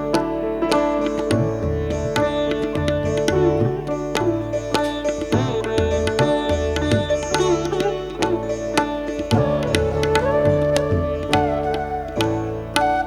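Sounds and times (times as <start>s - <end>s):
melody with sliding notes: 0.0s - 13.0s.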